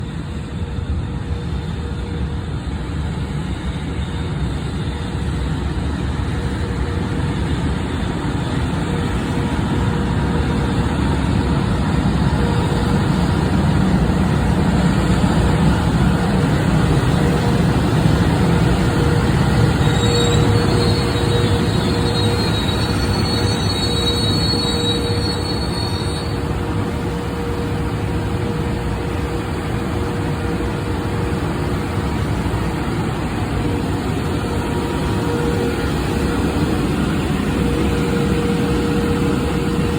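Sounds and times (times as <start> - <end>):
constant hum: 0.0 - 39.9
train wheels rumbling on rail: 0.0 - 39.9
high wheel squeals: 4.8 - 39.9.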